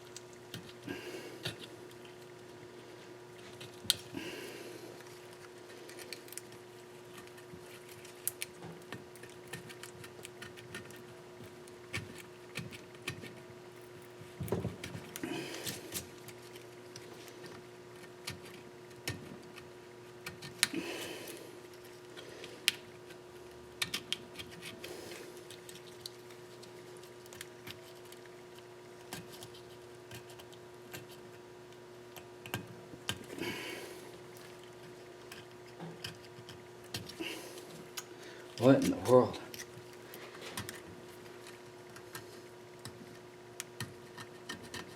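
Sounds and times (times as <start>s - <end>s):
steady hum: 0.0s - 44.9s.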